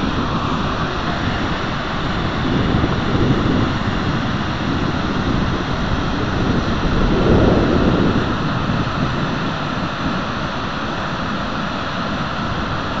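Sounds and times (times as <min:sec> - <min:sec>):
water rushing down spillway: 0:00.0 - 0:13.0
wind buffeting microphone: 0:00.0 - 0:13.0.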